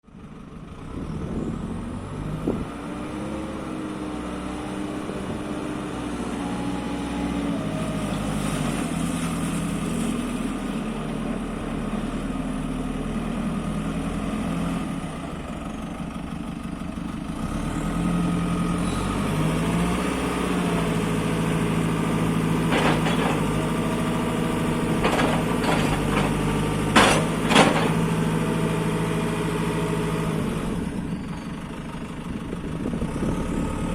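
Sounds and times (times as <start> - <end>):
diesel engine revving: 0.2 - 33.9.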